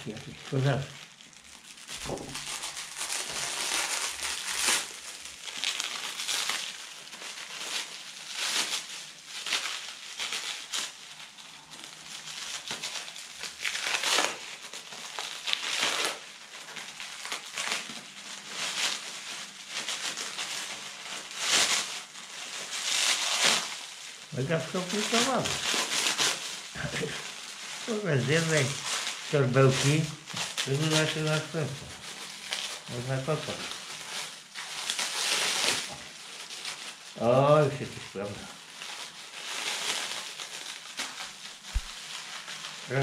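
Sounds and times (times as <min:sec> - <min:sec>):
plastic packaging crinkling: 0:00.0 - 0:43.0.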